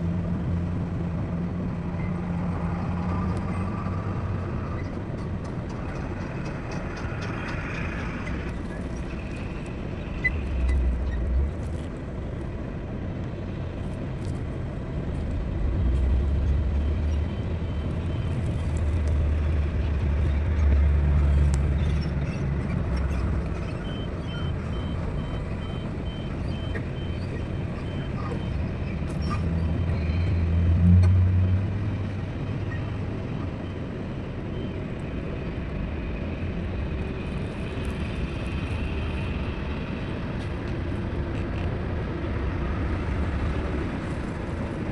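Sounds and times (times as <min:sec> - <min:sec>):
heavy diesel engines rumbling: 0:00.0 - 0:44.9.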